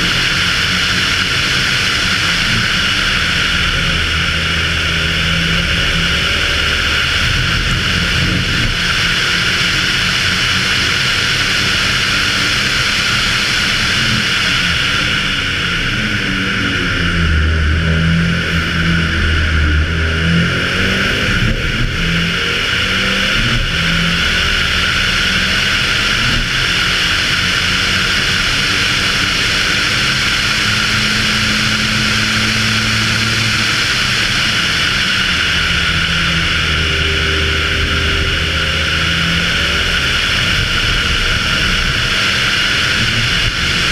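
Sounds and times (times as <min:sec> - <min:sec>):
rally car engine: 0:00.0 - 0:43.9.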